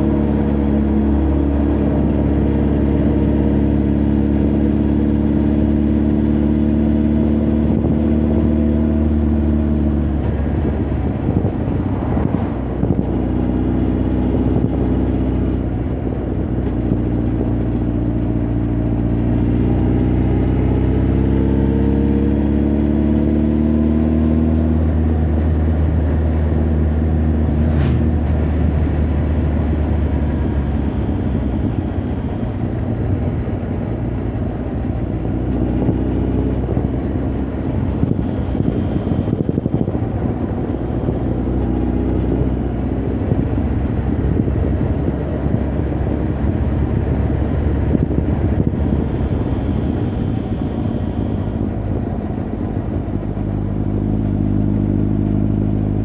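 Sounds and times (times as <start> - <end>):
motorcycle engine and exhaust: 0.0 - 56.0
wind and road noise: 0.0 - 56.0.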